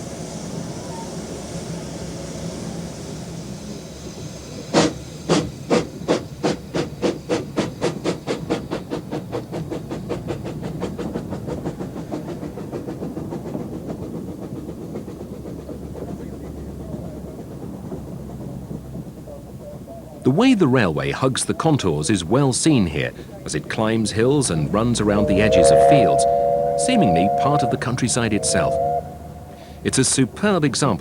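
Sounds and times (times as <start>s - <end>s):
steam locomotive exhaust chuffs: 0.0s - 31.0s
steam locomotive hissing steam: 0.0s - 31.0s.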